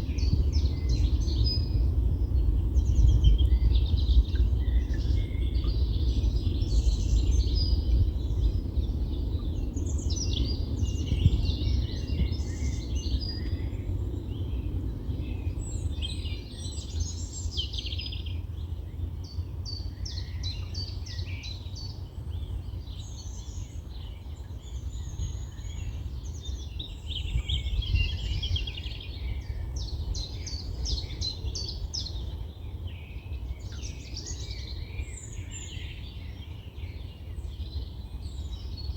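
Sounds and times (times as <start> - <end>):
wind rumble: 0.0 - 17.6, 24.8 - 38.9
songbirds singing: 0.0 - 38.9.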